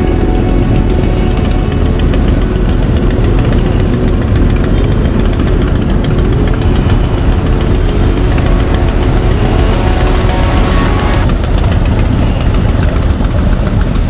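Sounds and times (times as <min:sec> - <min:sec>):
many motorcycle engines running: 0:00.0 - 0:14.0.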